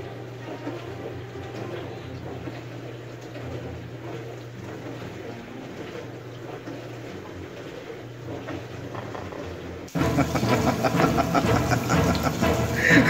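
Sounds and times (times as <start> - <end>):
dishwasher humming: 0.0 - 13.0
water sloshing: 0.0 - 13.0.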